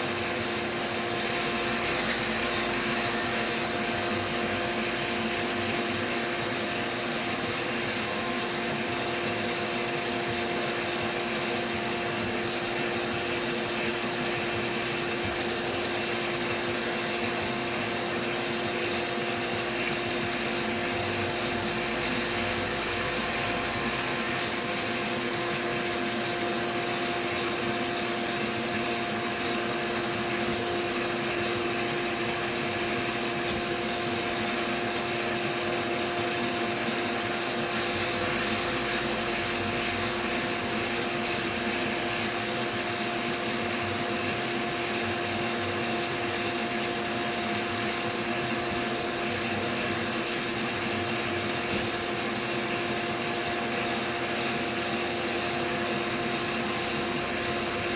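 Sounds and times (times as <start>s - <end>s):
coolant hissing: 0.0s - 57.9s
milling machine cutting: 0.0s - 57.9s.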